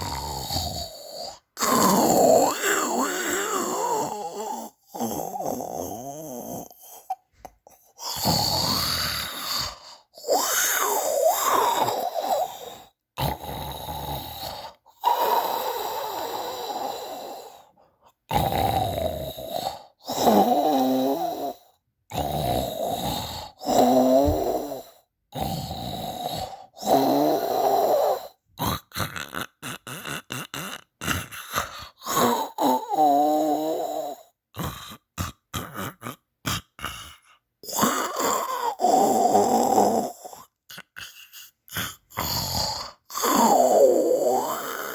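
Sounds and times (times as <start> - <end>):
person snoring: 0.0 - 44.9.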